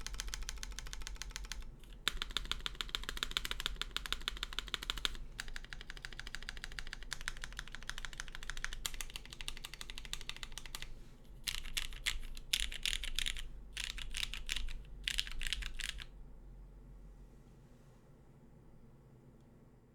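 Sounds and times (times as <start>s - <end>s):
typing on mechanical keyboard: 0.0s - 16.1s.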